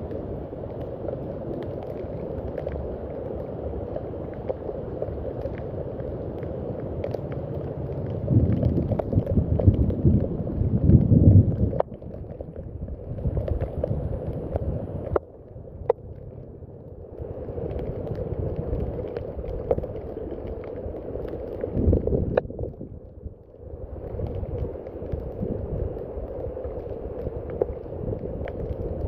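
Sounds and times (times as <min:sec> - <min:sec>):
low rumble: 0:00.0 - 0:29.0
rain falling: 0:00.0 - 0:29.0.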